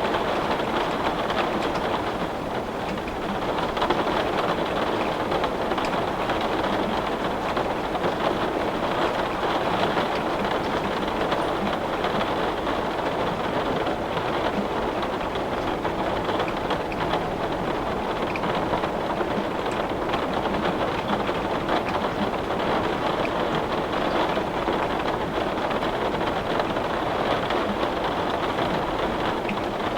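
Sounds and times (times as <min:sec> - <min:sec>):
heavy rain on a window: 0:00.0 - 0:29.9
raindrop ticks: 0:00.0 - 0:29.9.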